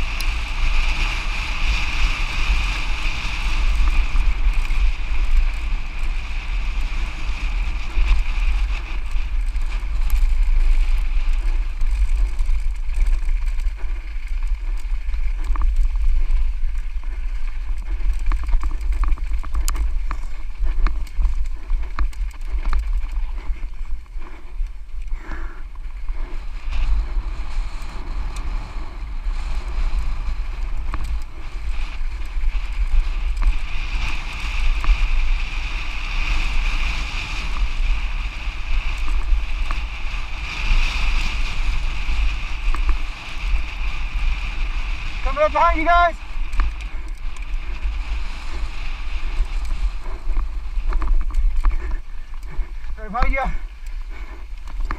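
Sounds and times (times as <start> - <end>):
bike clicks and rattles: 0.0 - 54.9
wind buffeting microphone: 0.0 - 54.9.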